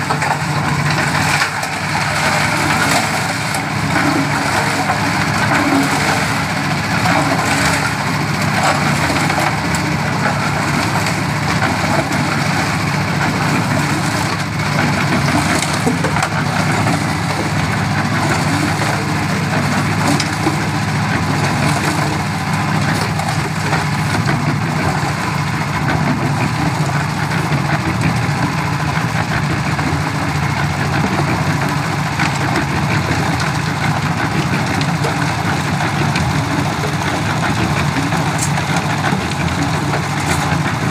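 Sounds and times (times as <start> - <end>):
concrete mix rattling in drum: 0.0 - 40.9.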